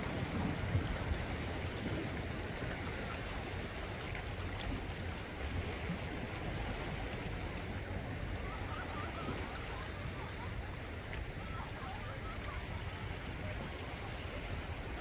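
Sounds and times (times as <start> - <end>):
waves breaking over rocks: 0.0 - 15.0.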